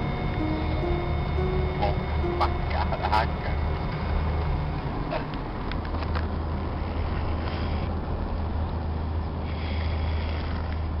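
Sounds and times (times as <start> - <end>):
car engine and road drone: 0.0 - 10.1.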